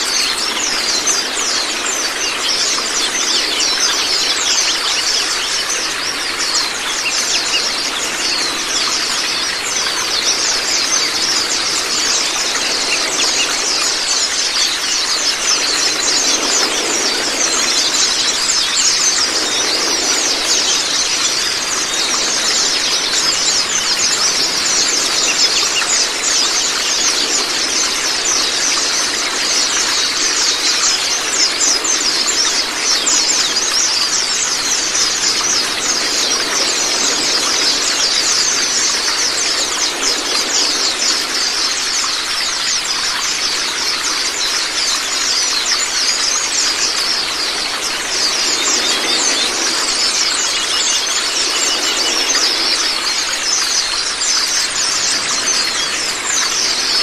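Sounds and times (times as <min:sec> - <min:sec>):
birds chattering and trilling: 0:00.0 - 0:57.0
running water: 0:00.0 - 0:57.0.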